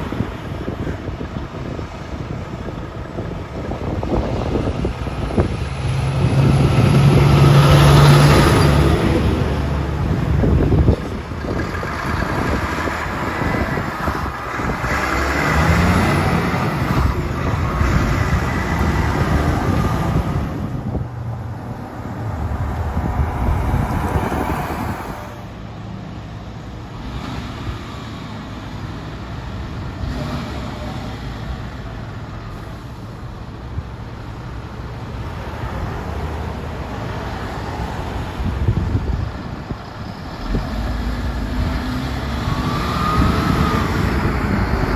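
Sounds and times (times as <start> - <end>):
diesel trucks driving past: 0.0 - 44.9.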